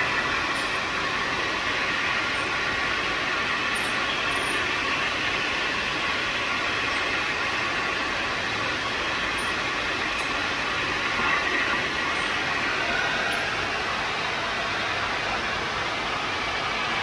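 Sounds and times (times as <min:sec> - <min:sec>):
machine running steadily: 0:00.0 - 0:17.0.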